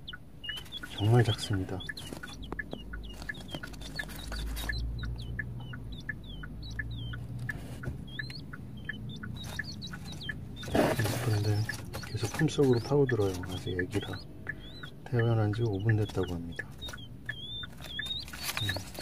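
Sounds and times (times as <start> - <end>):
chicks peeping: 0.0 - 19.0
low car cabin rumble: 0.0 - 19.0.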